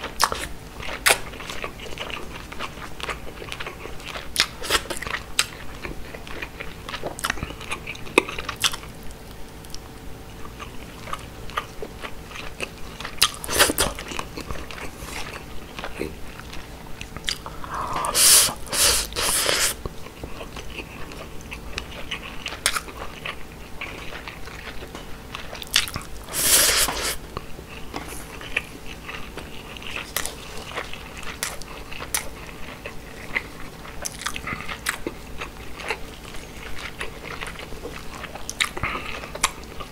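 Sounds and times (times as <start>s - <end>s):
close chewing with wet mouth clicks: 0.0s - 39.9s.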